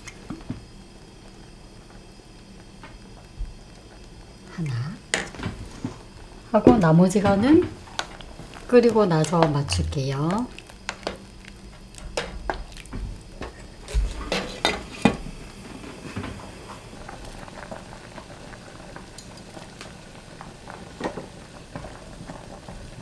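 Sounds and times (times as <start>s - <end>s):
stew bubbling in a pot: 0.0s - 23.0s.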